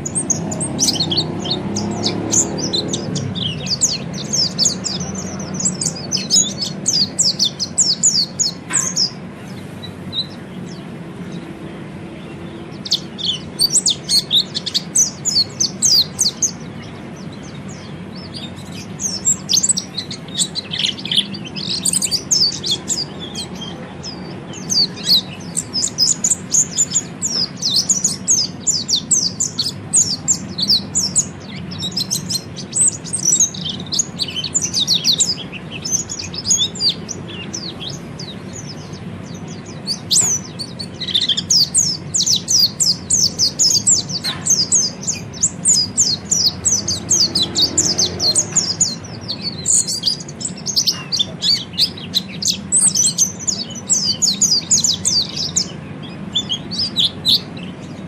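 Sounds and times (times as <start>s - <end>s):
thrush twittering song: 0.0s - 58.0s.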